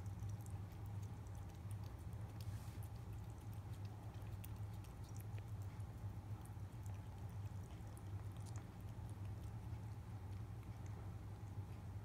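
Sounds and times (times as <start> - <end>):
cat licking wet clicks: 0.0 - 12.0
steady low hum: 0.0 - 12.0.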